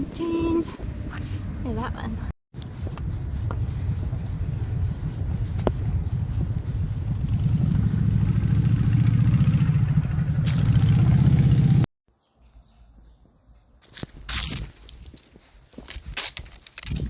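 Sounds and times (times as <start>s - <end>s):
road and wind noise: 0.0s - 11.9s, 13.2s - 17.0s.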